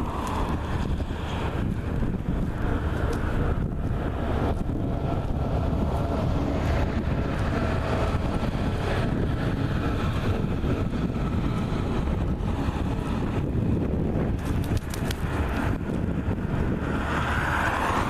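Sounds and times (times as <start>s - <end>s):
wind blowing over microphone: 0.0s - 18.0s.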